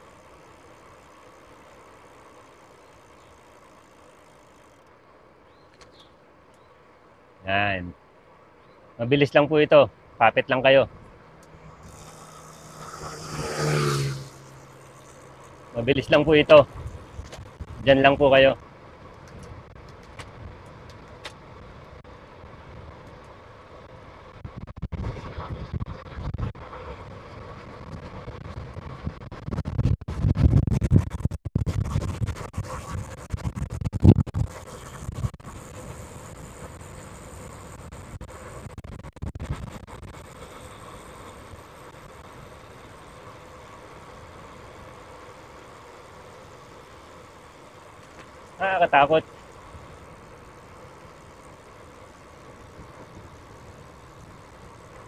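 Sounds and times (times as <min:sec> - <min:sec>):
bicycle wind and tyre noise: 0:00.0 - 0:55.0.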